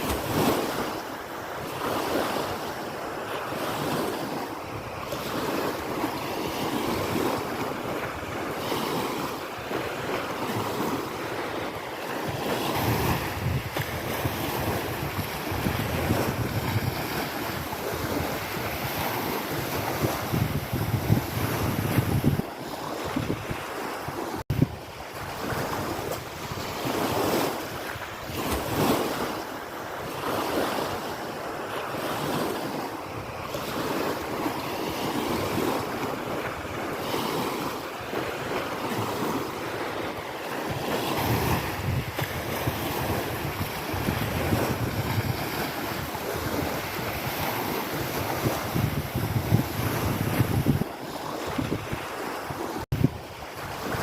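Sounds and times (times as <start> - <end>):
waves washing against shore: 0.0 - 54.0
wind blowing on microphone: 3.8 - 30.9, 32.2 - 54.0.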